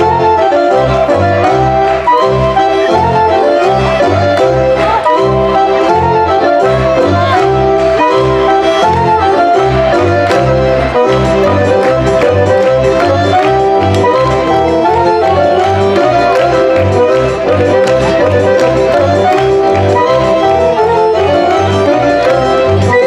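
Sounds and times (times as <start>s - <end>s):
folk dance music: 0.0s - 23.0s.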